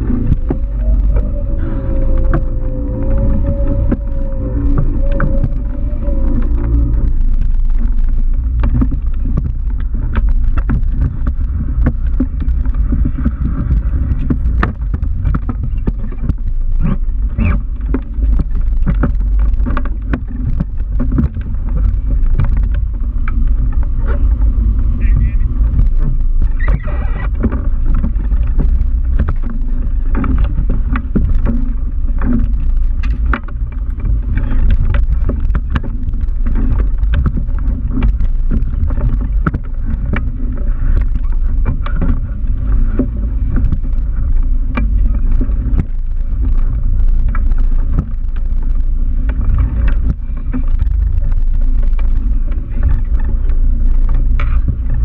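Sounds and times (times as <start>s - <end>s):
motor boat engine rumbling: 0.0s - 55.0s
wind buffeting microphone: 0.0s - 55.0s.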